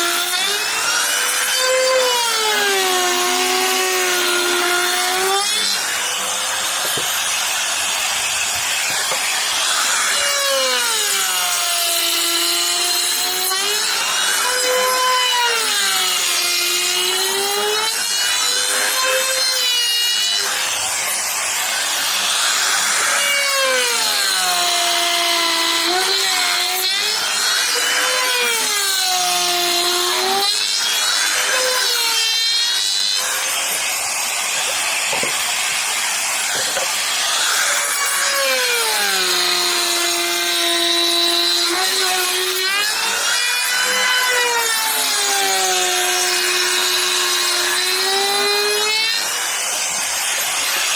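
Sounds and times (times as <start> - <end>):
power tool cutting wood: 0.0 - 50.9.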